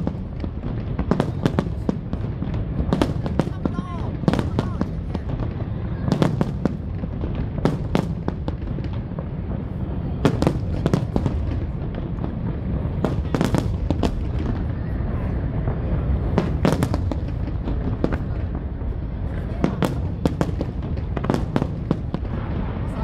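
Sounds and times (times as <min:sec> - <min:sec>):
fireworks cracking: 0:00.0 - 0:23.0
fireworks rumble: 0:00.0 - 0:23.0
loud firework bang: 0:00.0 - 0:23.0.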